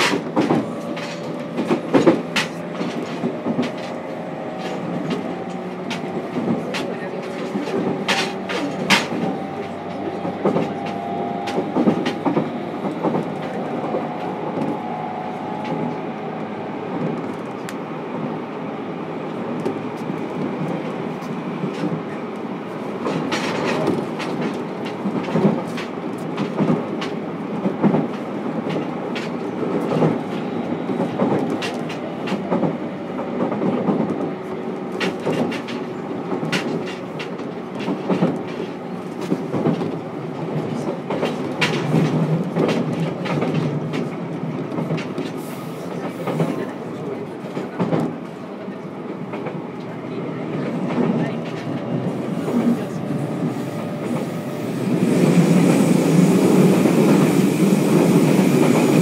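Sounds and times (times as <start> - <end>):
wheels clacking over rail joints: 0.0 - 17.8, 23.0 - 59.0
train rolling rumble: 0.0 - 59.0.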